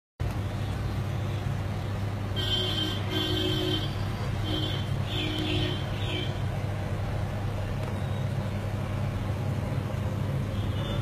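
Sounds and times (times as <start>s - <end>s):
low machine hum: 0.2s - 11.0s.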